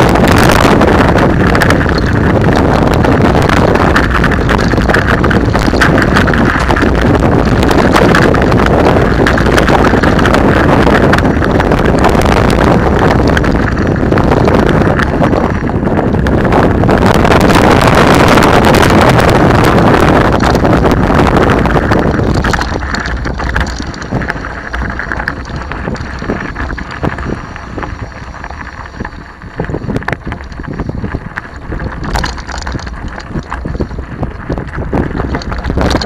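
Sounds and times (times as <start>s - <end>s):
bike tyres crunching over stones: 0.0s - 36.0s
wind on microphone: 0.0s - 36.0s.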